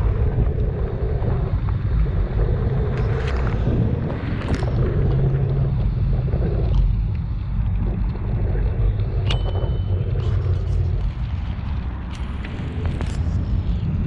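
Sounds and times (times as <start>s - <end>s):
low rumble of bicycle riding: 0.0s - 14.0s
wind buffeting microphone: 0.0s - 14.0s.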